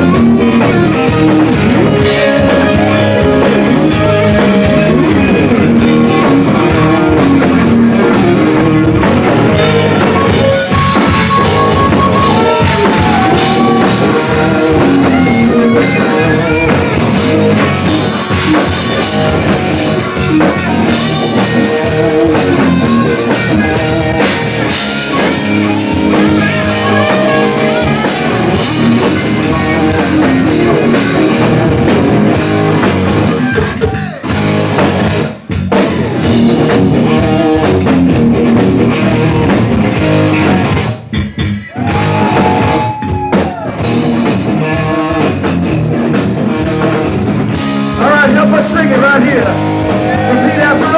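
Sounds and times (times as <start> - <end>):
bass guitar: 0.0 - 50.9
drum kit: 0.0 - 50.9
electric guitar: 0.0 - 50.9.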